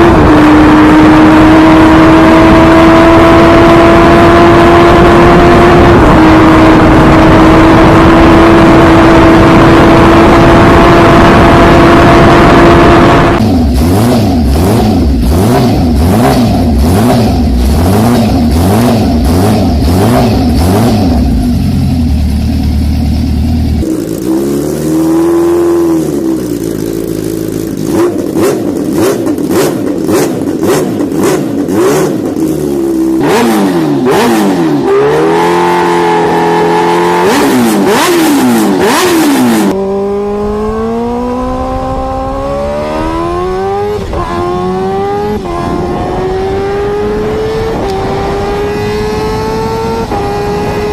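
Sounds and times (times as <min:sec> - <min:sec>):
motorcycle engines revving: 0:00.0 - 0:22.7, 0:23.5 - 0:50.9.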